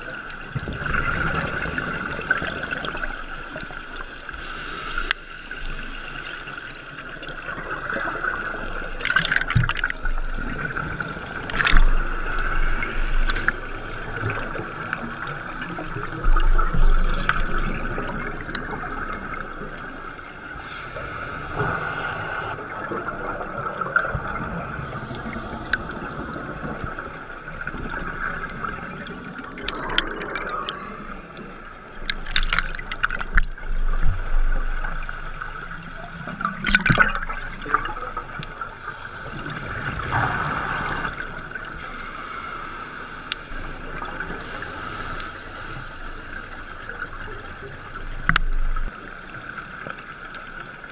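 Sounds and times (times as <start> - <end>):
exhaled bubbles gurgling: 0.0 - 4.6, 6.2 - 42.2, 43.3 - 50.9
muffled underwater hiss: 0.0 - 50.7.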